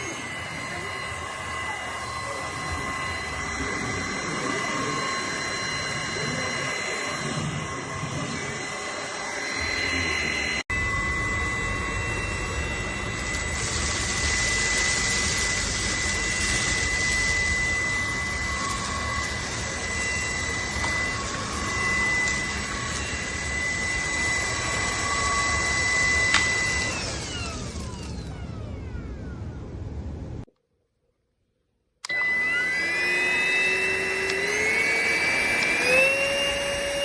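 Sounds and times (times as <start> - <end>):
vacuum cleaner running: 0.0 - 30.5, 32.0 - 37.0.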